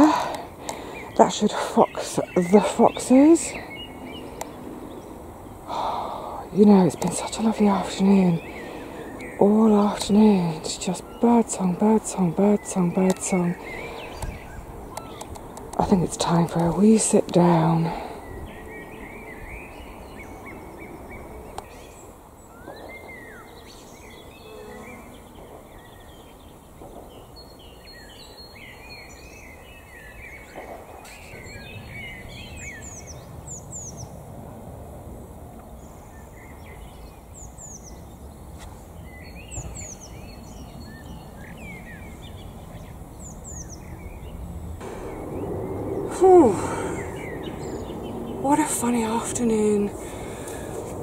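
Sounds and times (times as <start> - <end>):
songbirds singing and chattering: 0.0 - 34.6, 35.4 - 51.0
low background noise: 0.0 - 51.0.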